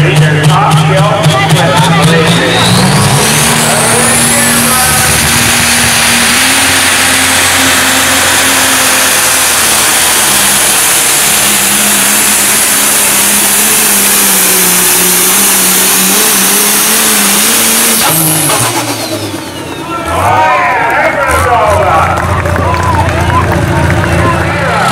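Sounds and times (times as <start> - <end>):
diesel engine at full throttle: 0.0 - 24.9.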